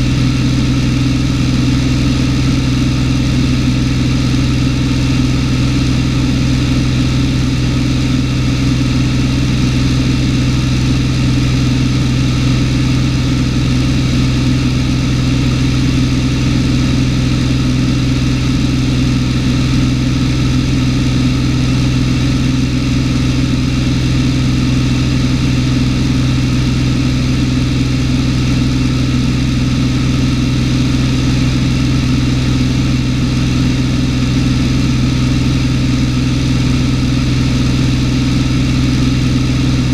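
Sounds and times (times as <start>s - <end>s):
airplane engine hum in cabin: 0.0s - 39.9s.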